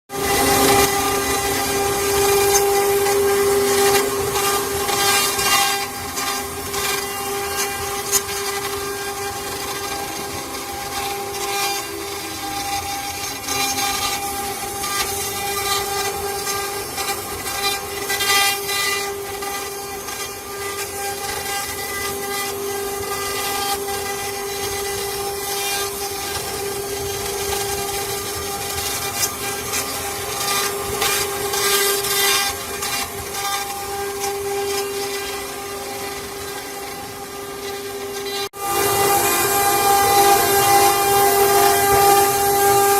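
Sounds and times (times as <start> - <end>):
bit cutting wood: 0.1 - 42.9
router spindle whine: 0.1 - 42.9.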